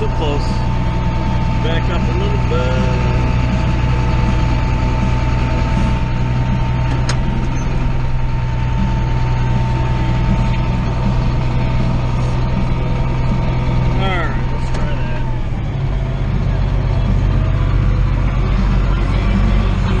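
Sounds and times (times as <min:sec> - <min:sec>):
heavy machine engine whining: 0:00.0 - 0:20.0.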